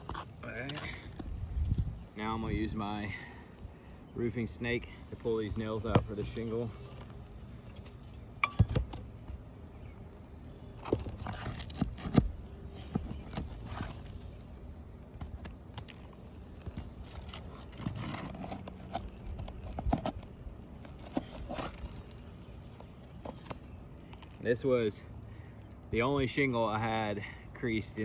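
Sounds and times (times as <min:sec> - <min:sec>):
metal scraping against shingle: 0:00.0 - 0:01.2, 0:02.2 - 0:09.3, 0:10.6 - 0:25.2.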